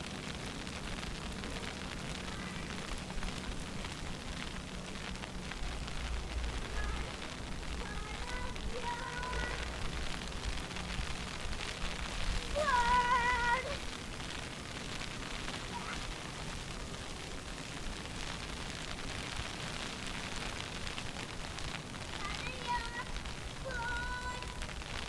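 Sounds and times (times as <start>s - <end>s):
street noise hiss: 0.0s - 25.0s.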